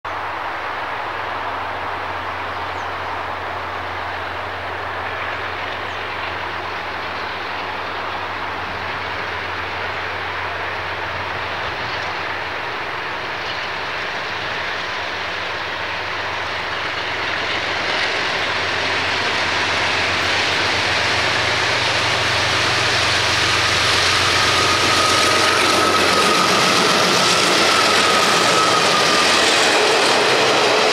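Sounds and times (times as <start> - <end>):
diesel locomotive engines droning: 0.1 - 30.9
train wheels rumbling on rails: 1.1 - 30.9.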